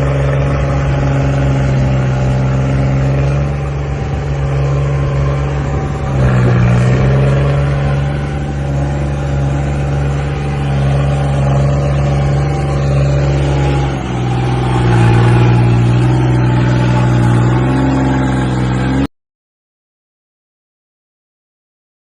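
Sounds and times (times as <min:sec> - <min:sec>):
tractor diesel engine under load: 0:00.0 - 0:19.1.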